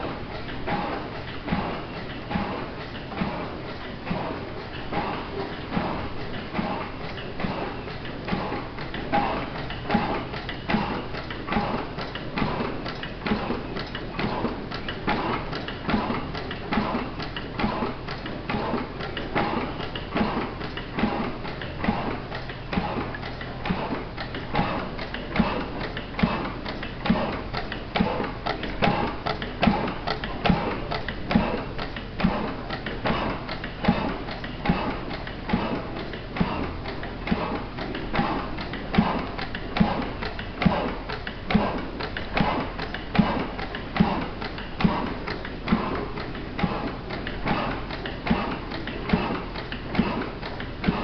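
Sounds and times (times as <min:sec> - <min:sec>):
stationary gas engine running: 0:00.0 - 0:51.0.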